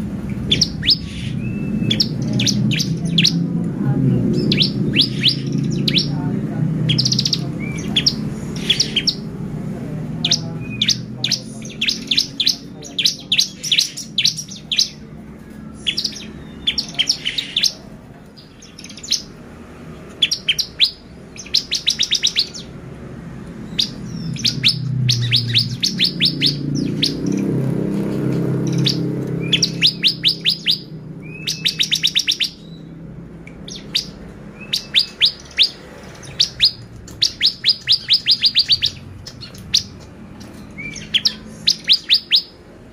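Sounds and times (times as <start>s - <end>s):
bird singing high chirps: 0.4s - 3.6s, 4.2s - 19.4s, 20.0s - 22.8s, 23.6s - 42.7s.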